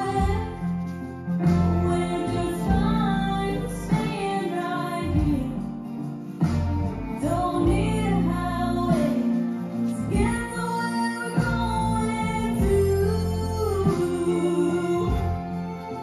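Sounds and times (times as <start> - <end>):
woman singing over bass line: 0.0 - 0.8, 1.6 - 5.8, 7.0 - 15.8.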